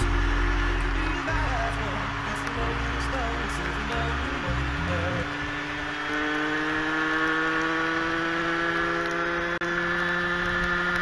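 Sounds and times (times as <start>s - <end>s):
two-stroke motorcycle engine buzzing: 0.0s - 11.0s
wet road noise: 0.0s - 11.0s
wind: 0.0s - 11.0s.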